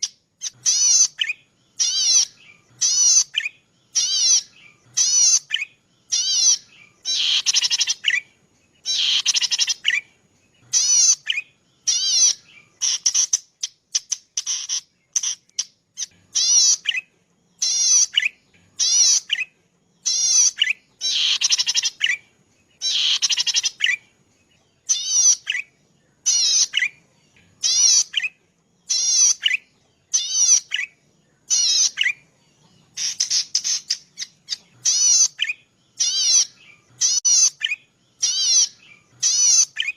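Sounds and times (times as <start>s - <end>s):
bird singing buzzy trills: 0.0s - 39.9s.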